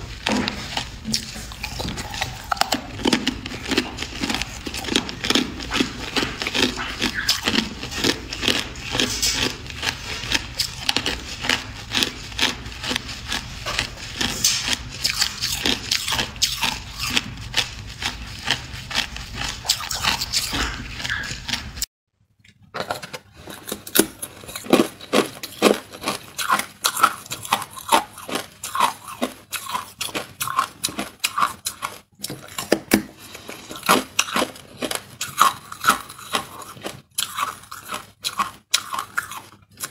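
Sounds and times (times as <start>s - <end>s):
person crunching ice: 0.0s - 21.9s, 23.3s - 39.9s.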